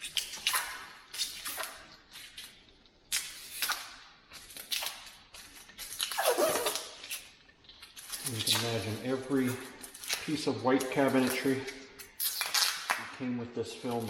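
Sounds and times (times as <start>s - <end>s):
plastic film being peeled off: 0.0s - 13.2s.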